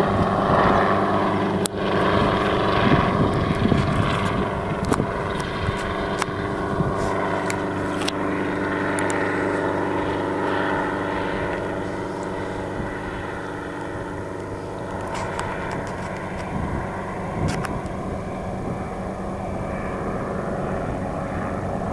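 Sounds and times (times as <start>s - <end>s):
helicopter engine and rotor: 0.0s - 21.9s.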